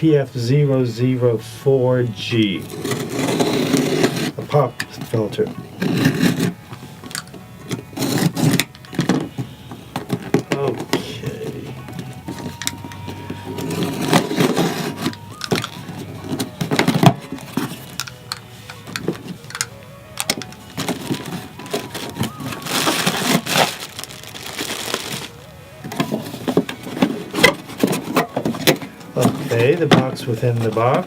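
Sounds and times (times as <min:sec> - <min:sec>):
sliding scraping noise: 0:02.6 - 0:29.8
cardboard packaging rustling: 0:02.6 - 0:31.0.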